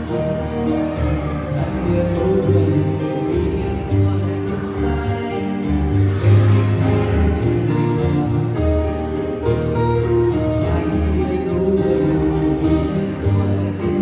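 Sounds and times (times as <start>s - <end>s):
song with bass and guitar: 0.0s - 14.0s.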